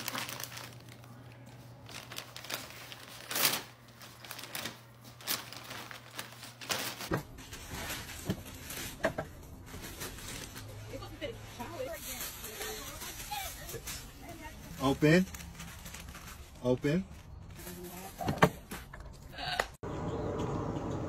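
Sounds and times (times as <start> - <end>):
wrapping paper crinkling and ripping: 0.0 - 18.2
plastic cover rustling: 0.0 - 18.8.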